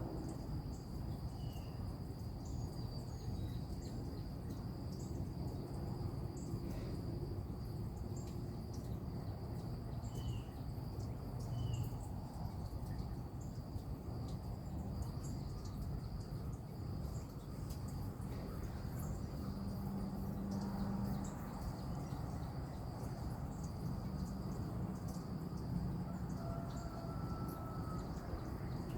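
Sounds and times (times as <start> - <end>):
high-pitched insect trill: 0.0 - 28.9
low background rumble: 0.0 - 28.9.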